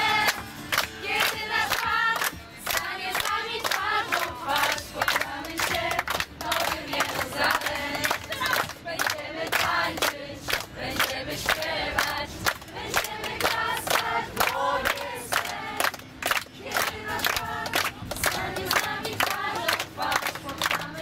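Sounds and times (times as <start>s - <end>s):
group singing and chanting: 0.0s - 21.0s
rhythmic hand clapping: 0.0s - 21.0s.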